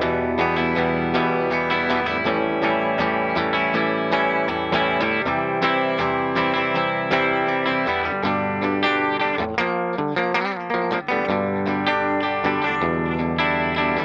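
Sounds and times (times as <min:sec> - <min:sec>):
electric guitar playing chords: 0:00.0 - 0:14.0.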